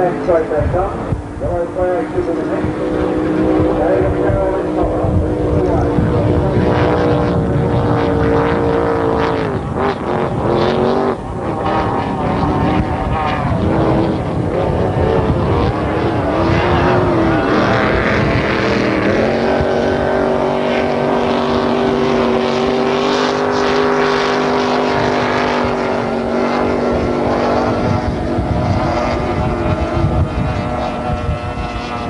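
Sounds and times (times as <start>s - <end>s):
race boat engines at high revs: 0.0s - 32.0s.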